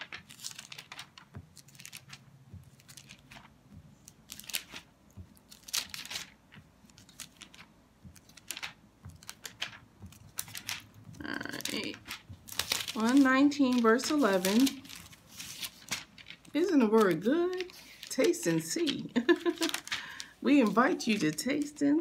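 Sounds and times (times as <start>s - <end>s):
thin pages rustling: 0.0s - 21.8s.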